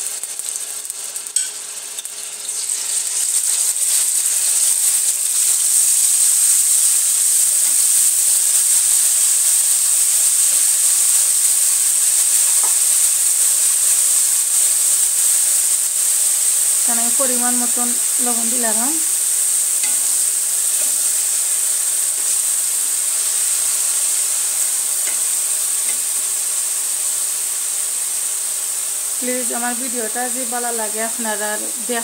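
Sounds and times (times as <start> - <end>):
onion paste sizzling in oil: 0.0 - 32.0.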